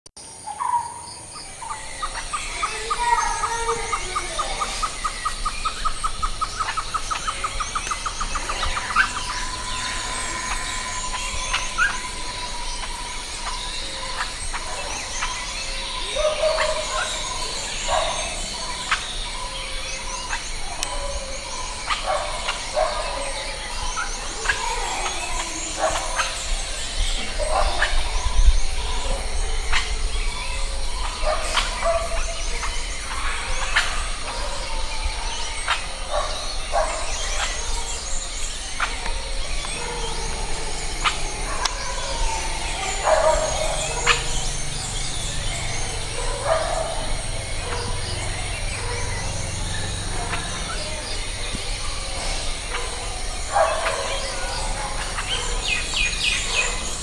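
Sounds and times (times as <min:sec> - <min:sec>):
birds chirping and calling: 0:00.2 - 0:57.0.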